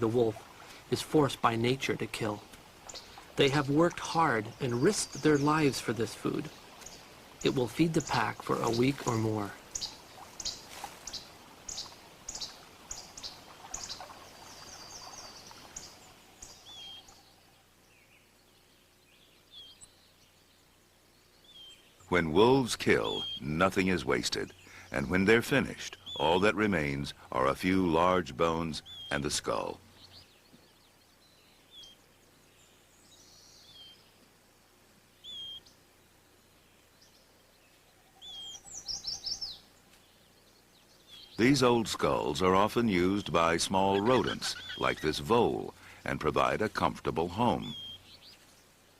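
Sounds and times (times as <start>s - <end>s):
faint outdoor background: 0.0s - 48.9s
small birds chirping: 0.0s - 48.9s.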